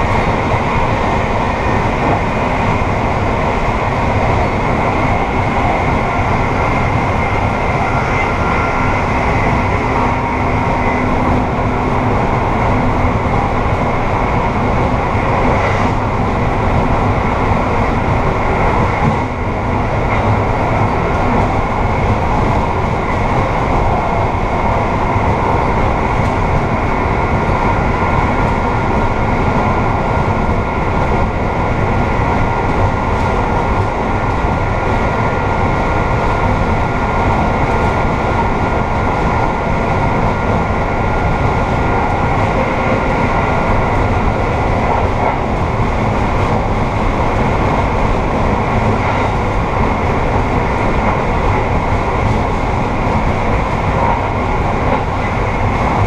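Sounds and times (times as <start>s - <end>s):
train rumble at speed: 0.0s - 56.0s.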